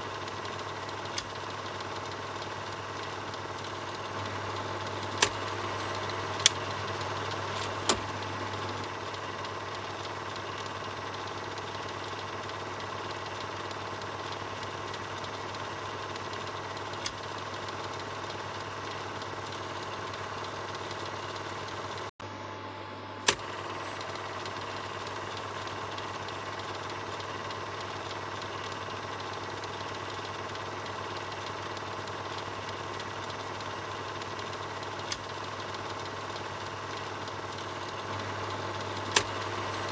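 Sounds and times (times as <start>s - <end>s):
film projector running: 0.0s - 39.9s
sharp clicks: 0.3s - 21.8s, 23.2s - 28.8s, 31.0s - 39.9s.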